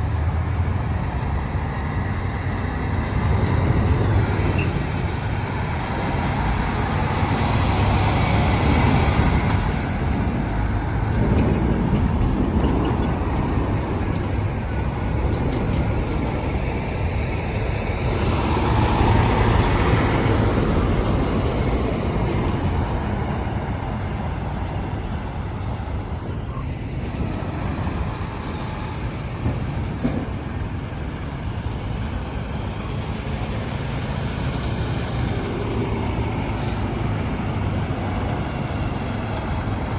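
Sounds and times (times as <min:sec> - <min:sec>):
heavy truck passing: 0:00.0 - 0:39.9
road traffic rumble: 0:00.0 - 0:39.9.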